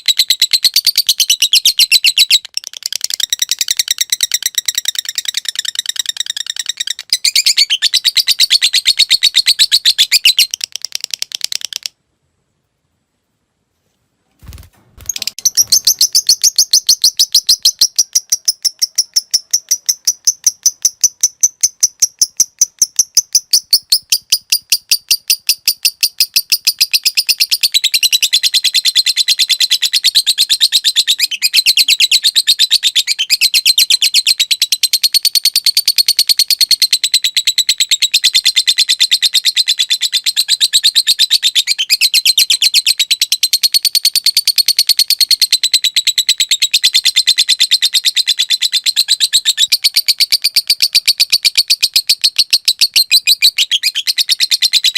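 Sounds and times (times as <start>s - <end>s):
lovebird chattering: 0.0s - 11.9s, 15.0s - 54.9s.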